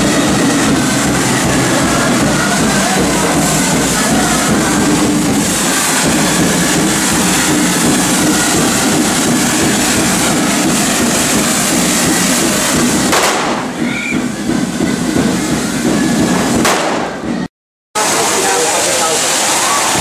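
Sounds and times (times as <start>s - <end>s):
fireworks hissing and crackling: 0.0s - 20.0s.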